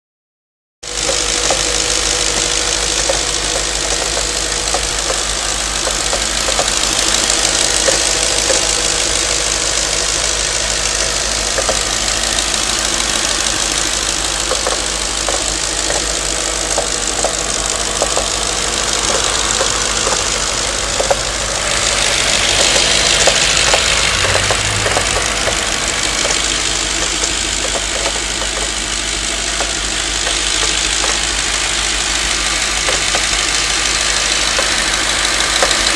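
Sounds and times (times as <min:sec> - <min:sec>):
engine knocks and ticks: 0:00.8 - 0:35.9
engine running: 0:00.8 - 0:35.9.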